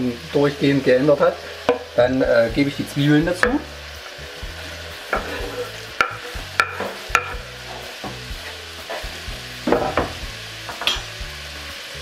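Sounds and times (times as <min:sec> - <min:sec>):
ham sizzling in a frying pan: 0:00.0 - 0:12.0.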